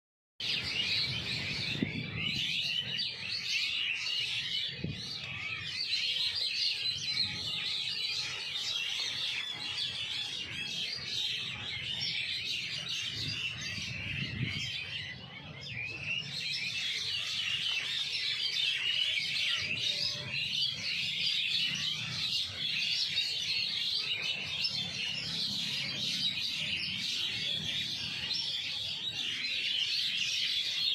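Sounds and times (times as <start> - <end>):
small birds chirping: 0.4 - 30.9.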